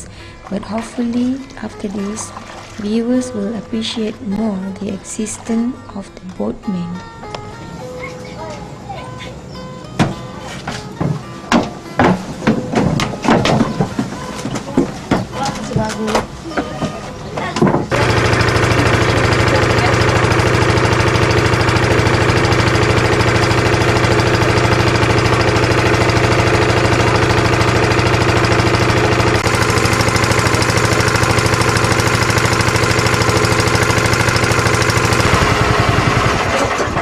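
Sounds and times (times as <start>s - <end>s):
boat engine chugging: 0.0s - 37.0s.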